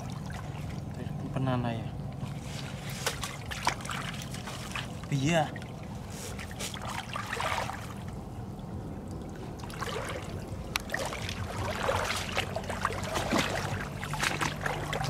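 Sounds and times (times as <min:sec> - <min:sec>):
wading through shallow water: 0:00.0 - 0:15.0.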